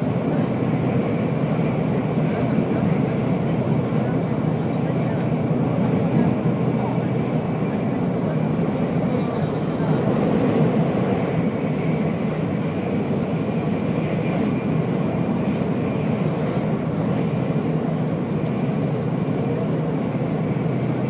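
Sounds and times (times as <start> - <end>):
train rushing and rumbling: 0.0 - 21.0.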